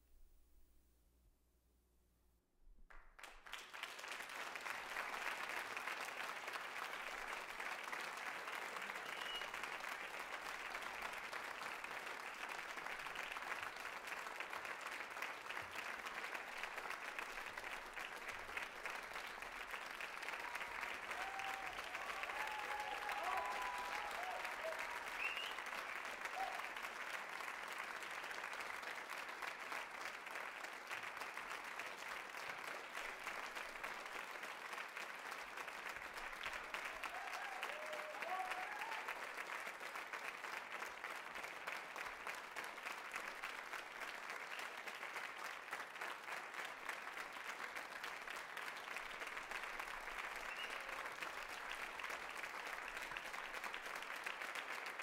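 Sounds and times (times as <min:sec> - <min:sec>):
audience applauding: 0:02.9 - 0:55.0.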